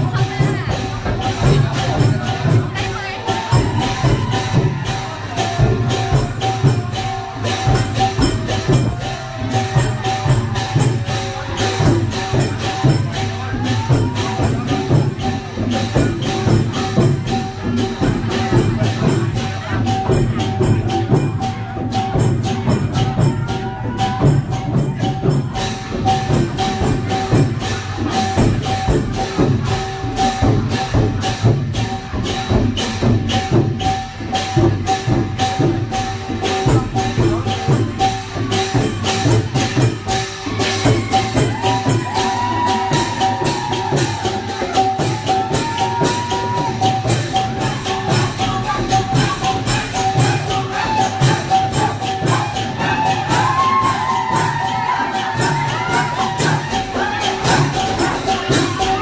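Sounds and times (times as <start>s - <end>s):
drums and jingling percussion: 0.0s - 59.0s.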